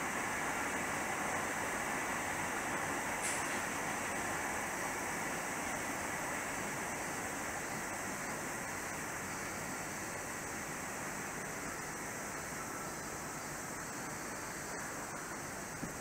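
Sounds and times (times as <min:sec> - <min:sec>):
background hiss: 0:00.0 - 0:16.0
distant electric train running: 0:00.0 - 0:16.0.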